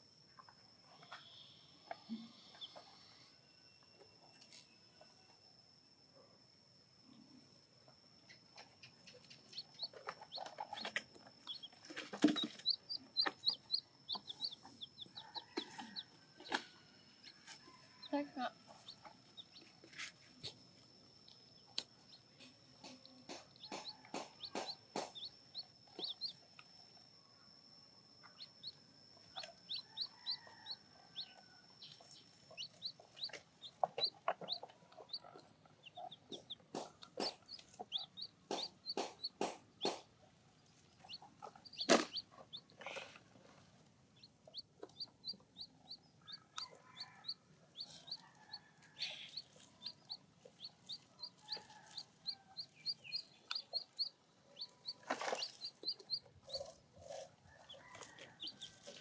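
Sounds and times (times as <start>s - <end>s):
baby chicks peeping: 8.5s - 16.6s, 17.4s - 20.6s, 21.2s - 27.0s, 28.2s - 59.0s.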